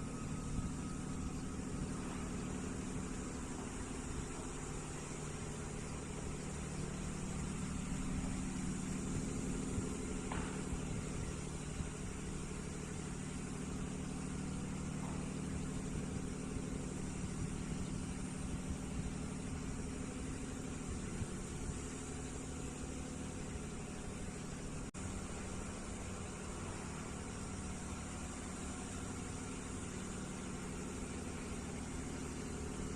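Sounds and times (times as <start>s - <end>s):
engine-like drone: 0.0s - 32.9s.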